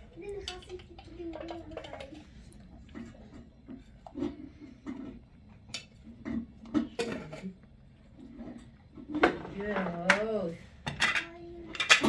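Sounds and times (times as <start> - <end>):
dishes and utensils clinking: 0.0 - 2.2, 2.9 - 7.6, 8.2 - 12.0.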